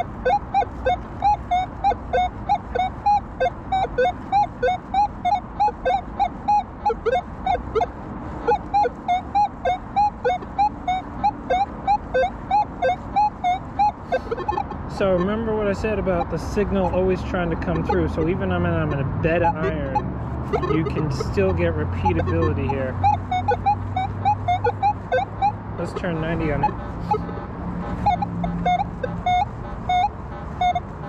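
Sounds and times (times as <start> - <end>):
metal detector beeping: 0.0 - 27.3, 28.0 - 30.9.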